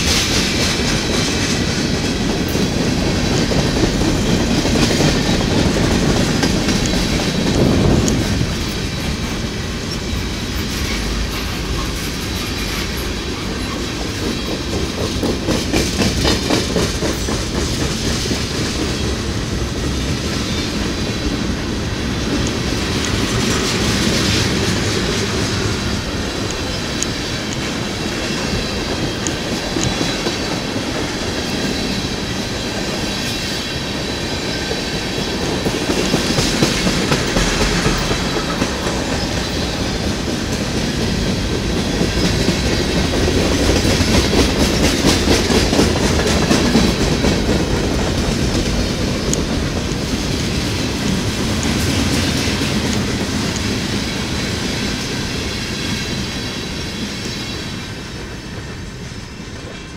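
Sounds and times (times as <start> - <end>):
wheels clicking over rail joints: 0.0 - 57.4.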